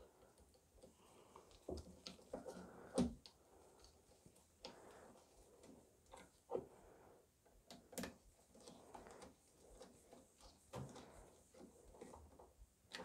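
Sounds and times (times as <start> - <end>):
faint clicks and knocks of handling: 0.0 - 6.8, 7.4 - 13.0.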